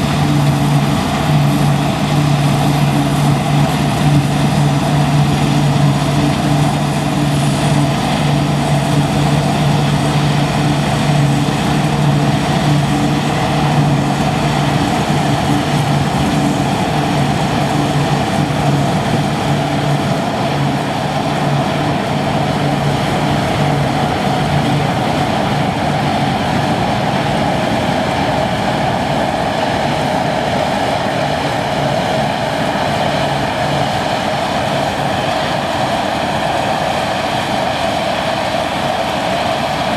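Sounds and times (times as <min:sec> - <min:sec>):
harvester machinery noise: 0:00.0 - 0:36.0
combine harvester engine hum: 0:00.0 - 0:39.9.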